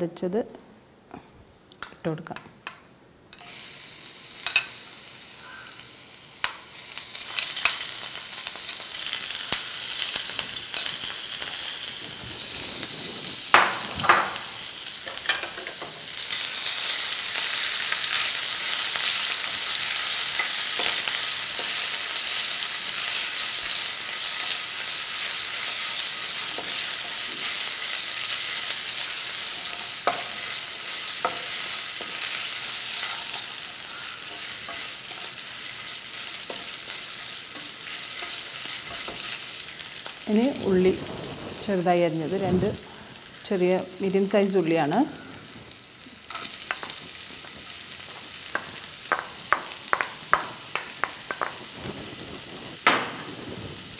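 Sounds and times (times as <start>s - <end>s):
sizzling in hot oil: 3.3s - 53.9s.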